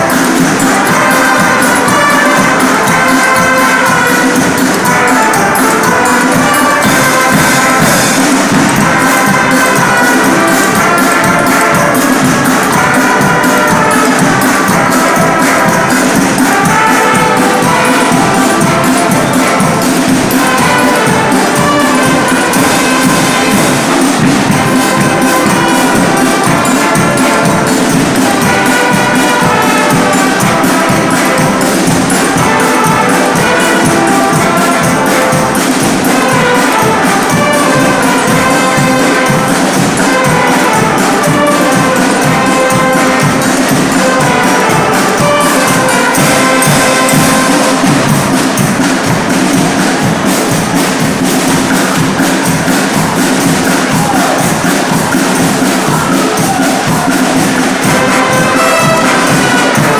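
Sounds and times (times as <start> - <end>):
loud music with brass and percussion: 0.0 - 59.9.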